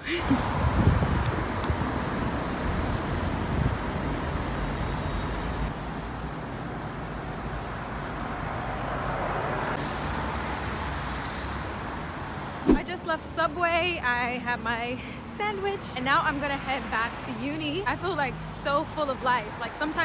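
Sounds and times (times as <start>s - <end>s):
hum of passing cars: 0.0s - 20.0s.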